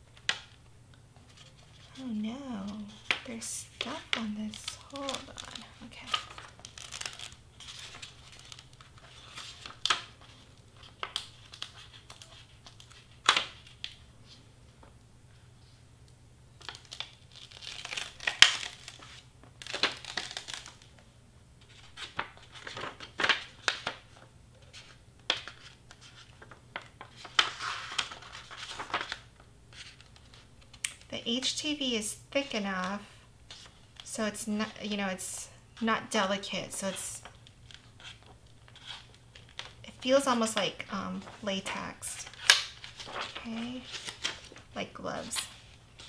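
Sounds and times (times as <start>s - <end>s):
vinyl sheet crinkling: 0.0s - 15.8s, 16.5s - 46.0s.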